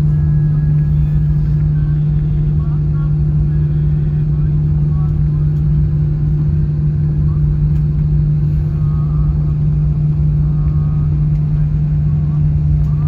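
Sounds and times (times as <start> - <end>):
airliner cabin drone: 0.0 - 13.0
faint passenger voices: 0.0 - 13.0.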